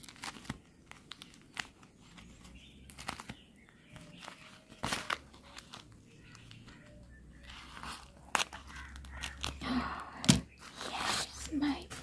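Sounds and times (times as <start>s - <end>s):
plastic packaging crinkling: 0.0s - 12.0s
sharp plastic crackles: 0.0s - 12.0s.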